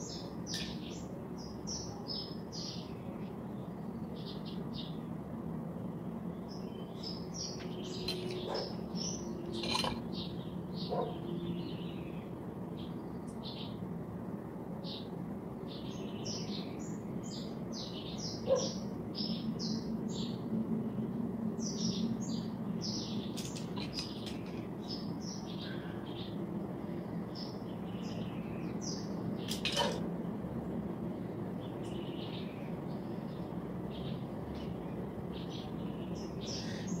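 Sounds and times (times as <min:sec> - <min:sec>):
small birds chirping: 0:00.0 - 0:05.2, 0:05.8 - 0:14.0, 0:14.8 - 0:37.0.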